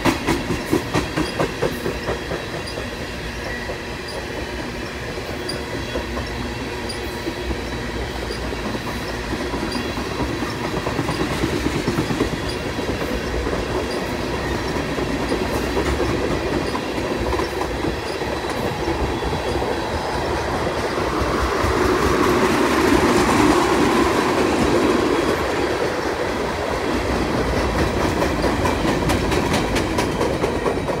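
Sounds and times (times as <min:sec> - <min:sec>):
freight train rumbling past: 0:00.0 - 0:31.0
wheels clicking over rail joints: 0:00.0 - 0:31.0.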